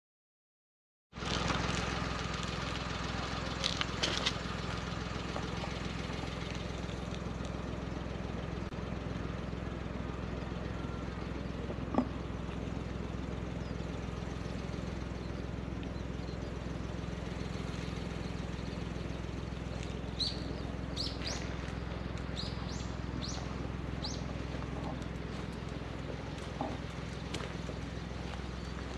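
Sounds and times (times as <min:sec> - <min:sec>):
low hum: 0:01.2 - 0:28.9.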